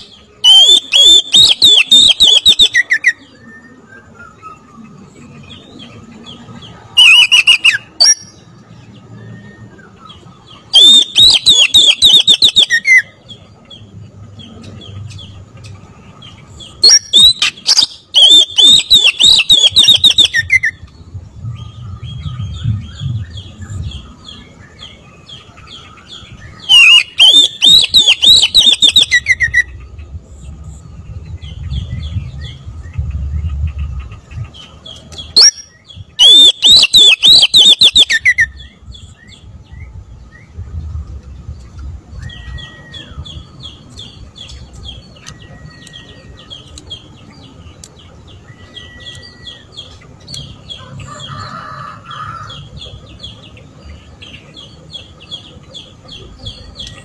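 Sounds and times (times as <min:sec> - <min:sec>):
bird singing: 0:00.0 - 0:57.0
low wind rumble: 0:00.0 - 0:57.0.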